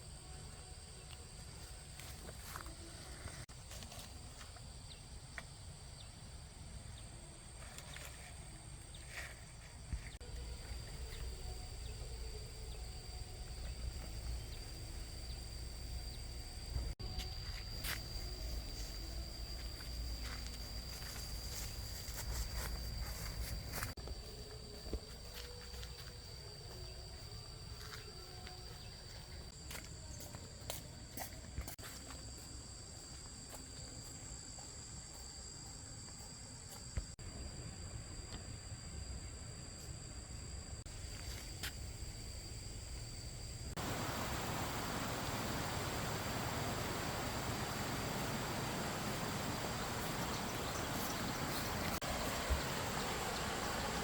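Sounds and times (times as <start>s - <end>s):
insect trill: 0.0s - 54.0s.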